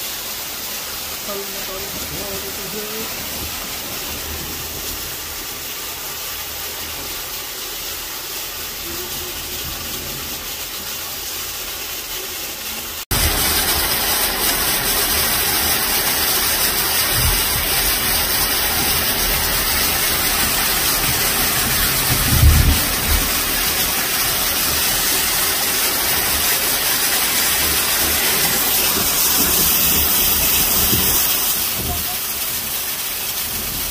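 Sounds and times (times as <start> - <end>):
heavy rain on foliage: 0.0 - 33.9.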